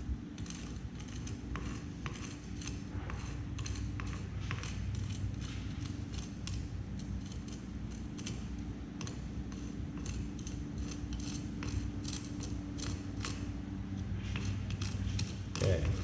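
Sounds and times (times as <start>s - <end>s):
steady low hum: 0.0s - 16.0s
putty knife scraping concrete: 0.3s - 13.5s, 14.2s - 16.0s.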